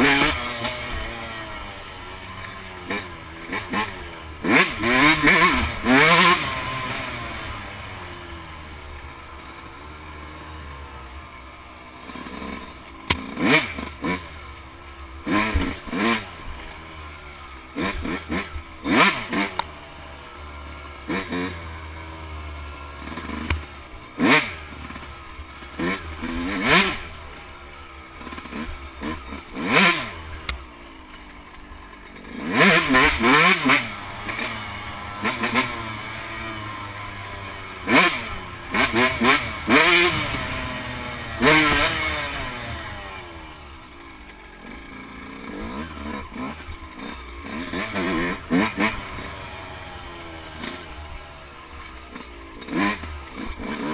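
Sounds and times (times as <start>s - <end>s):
dirt bike engine: 0.0s - 53.9s.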